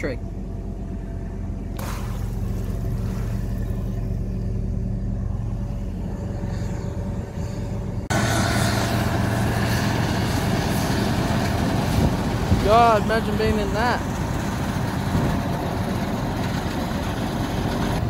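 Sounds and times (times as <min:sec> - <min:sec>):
heavy farm machinery running: 0:00.0 - 0:18.0.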